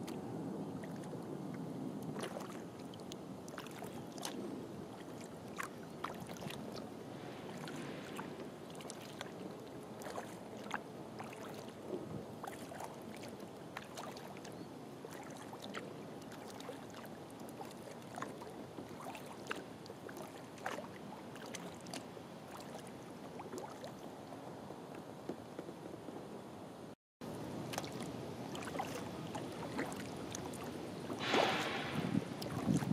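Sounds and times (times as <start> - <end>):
paddle splashes and drips: 0.0 - 25.7, 27.2 - 32.9
water washing along hull: 0.0 - 25.7, 27.2 - 32.9.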